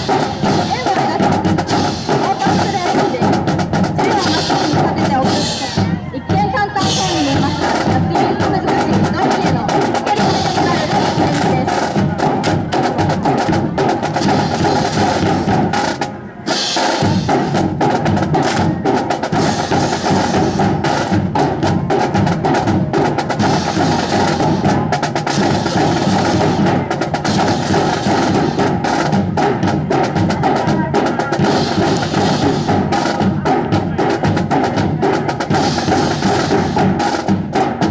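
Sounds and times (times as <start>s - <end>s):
marching drums: 0.0s - 37.9s.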